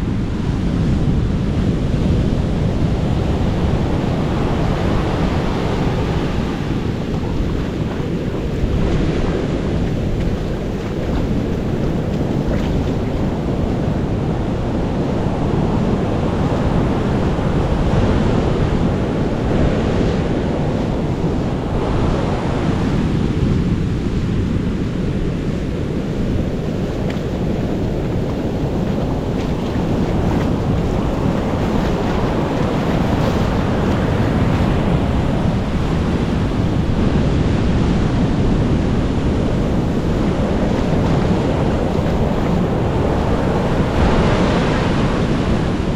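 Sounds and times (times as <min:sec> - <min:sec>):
wind rumbling on microphone: 0:00.0 - 0:45.9
ocean waves breaking: 0:02.7 - 0:45.9.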